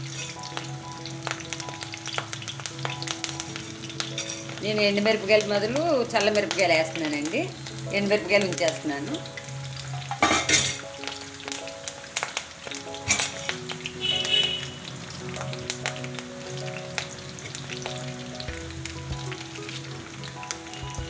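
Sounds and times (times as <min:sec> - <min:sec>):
spices sizzling and popping in oil: 0:00.0 - 0:21.0.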